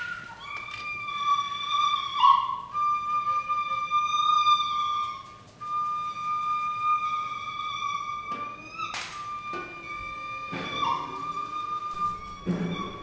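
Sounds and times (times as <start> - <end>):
flute holding high notes: 0.0 - 13.0.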